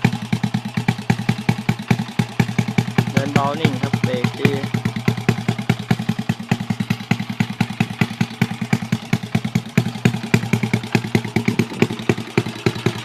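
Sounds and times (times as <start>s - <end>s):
minibike engine idling: 0.0s - 13.0s.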